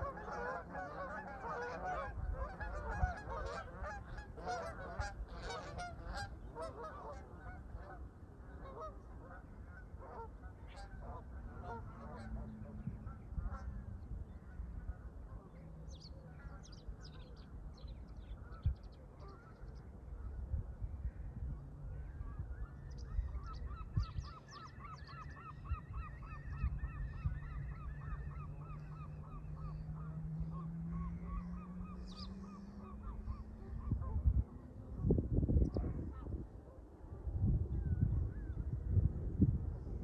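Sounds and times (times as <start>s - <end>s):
geese honking: 0.0s - 19.8s, 22.2s - 35.1s
low steady hum: 0.0s - 40.0s
wind rumble on microphone: 0.0s - 40.0s.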